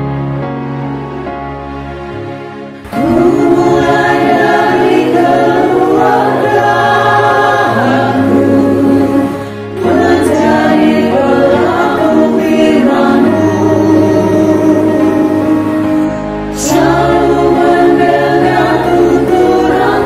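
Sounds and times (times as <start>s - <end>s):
women's choir singing a hymn: 2.9s - 20.0s.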